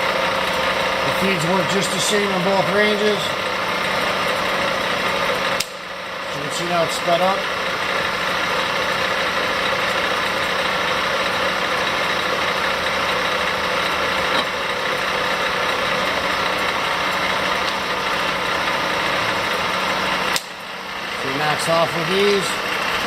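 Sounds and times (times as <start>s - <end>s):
milling machine humming: 0.0s - 23.0s.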